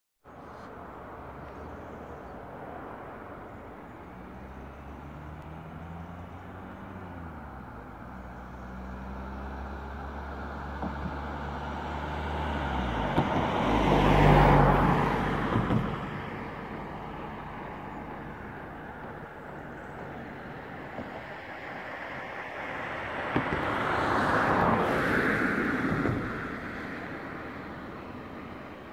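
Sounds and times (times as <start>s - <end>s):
vehicle engine hum: 0.2s - 28.9s.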